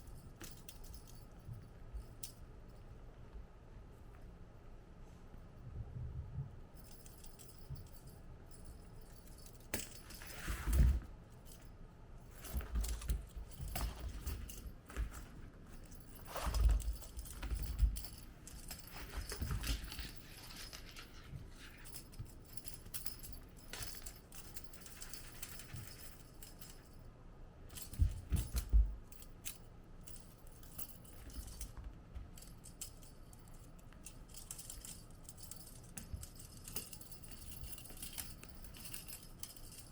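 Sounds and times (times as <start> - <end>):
cat toys jingling: 6.8 - 27.0, 27.7 - 39.9.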